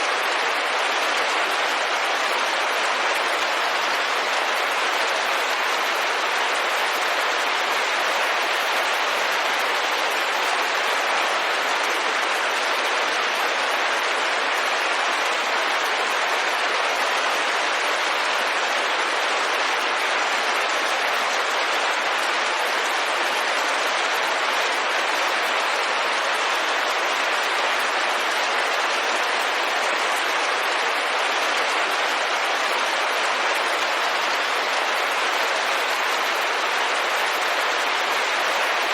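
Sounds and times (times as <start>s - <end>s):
rain on a window: 0.0s - 38.9s.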